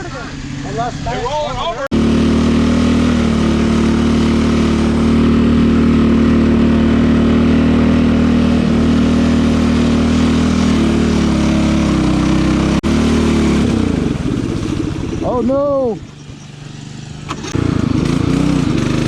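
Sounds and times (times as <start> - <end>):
riding lawn mower engine: 0.0 - 19.0.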